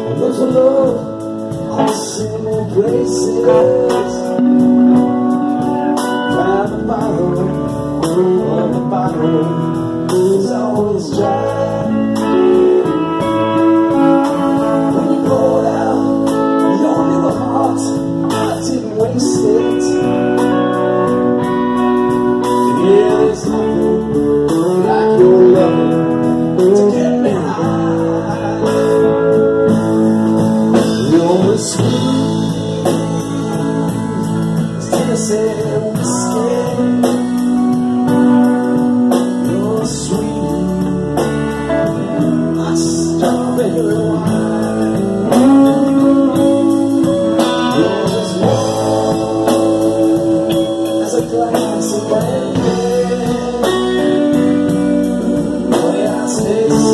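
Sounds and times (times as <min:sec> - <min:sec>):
amplified electric guitars: 0:00.0 - 0:56.9
man singing: 0:00.0 - 0:56.9.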